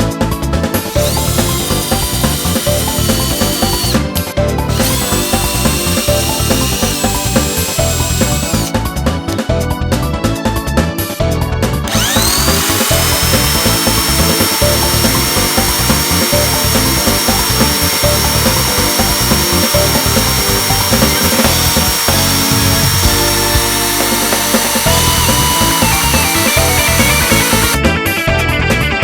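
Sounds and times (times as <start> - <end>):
vacuum cleaner motor whining: 0.9 - 9.4, 11.9 - 27.8.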